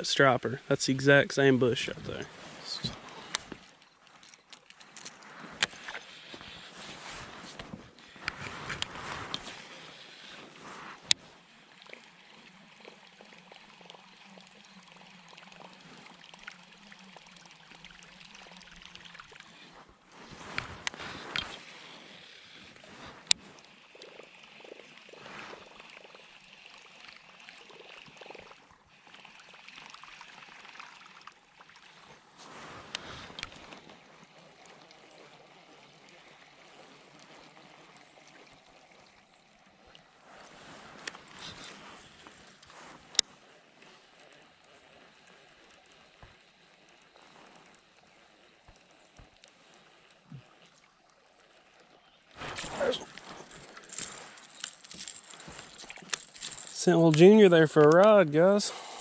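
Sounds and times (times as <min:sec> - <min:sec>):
small water splashes: 0:00.6 - 0:59.0
water lapping against kayak hull: 0:01.8 - 0:59.0.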